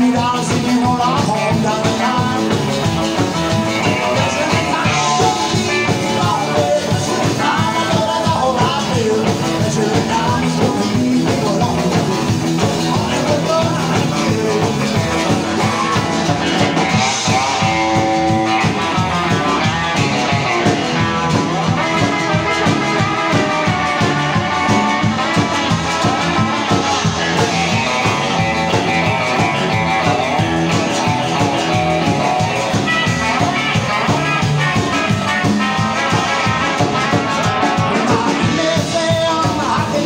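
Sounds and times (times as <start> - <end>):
drums: 0.0 - 40.0
electric guitar: 0.0 - 40.0
upright bass: 0.0 - 40.0.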